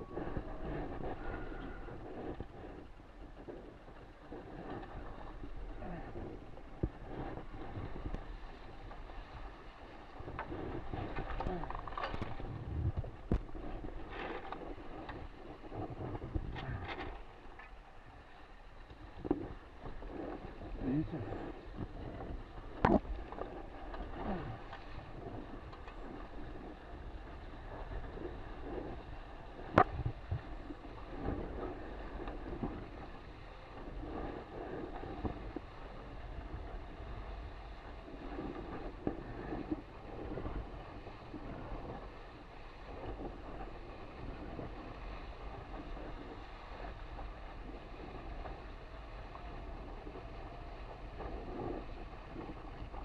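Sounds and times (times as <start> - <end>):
water rushing along hull: 0.0 - 53.0
wind rumbling on microphone: 0.0 - 53.0.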